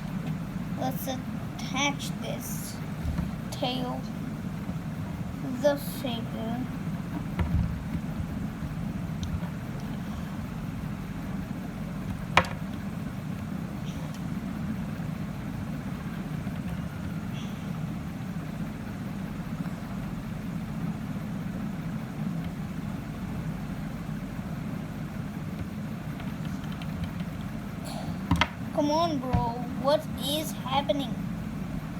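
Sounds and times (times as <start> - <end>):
low background hum: 0.0 - 31.9.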